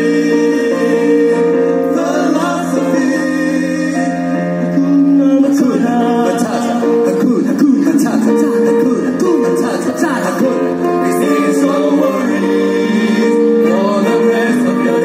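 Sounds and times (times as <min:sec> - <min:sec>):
people singing into microphones: 0:00.0 - 0:15.0
string ensemble playing: 0:00.0 - 0:15.0.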